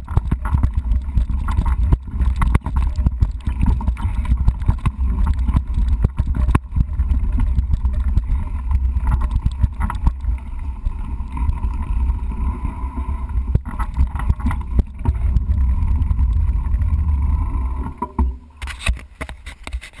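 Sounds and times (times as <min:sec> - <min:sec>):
bike rattling over rocks: 0:00.0 - 0:12.6, 0:13.2 - 0:20.0
wind rumbling on microphone: 0:00.0 - 0:20.0.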